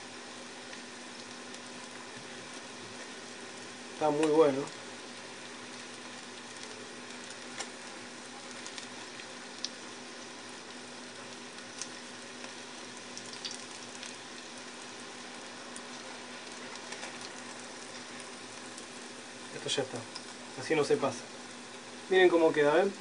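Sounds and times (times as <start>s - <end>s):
fish fillets sizzling in oil: 0.0s - 23.0s.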